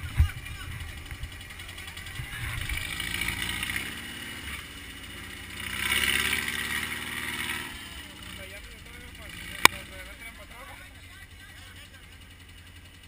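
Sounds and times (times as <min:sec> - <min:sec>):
engine idling: 0:00.0 - 0:13.0
car engine revving: 0:00.6 - 0:13.0.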